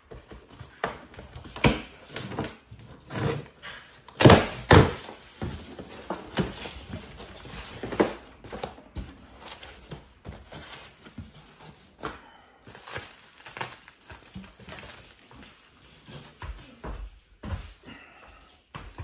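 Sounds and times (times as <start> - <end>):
bubble wrap and foam rustling: 0.0 - 16.8.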